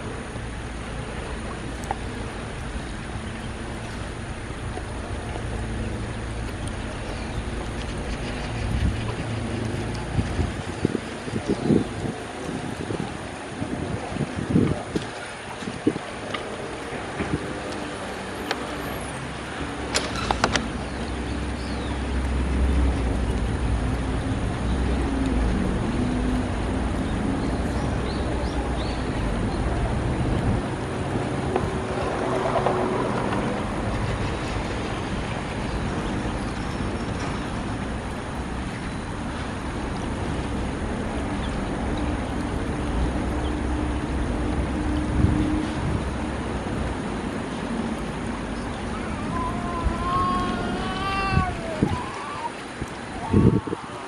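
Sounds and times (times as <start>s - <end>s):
stream running over stones: 0.0s - 54.0s.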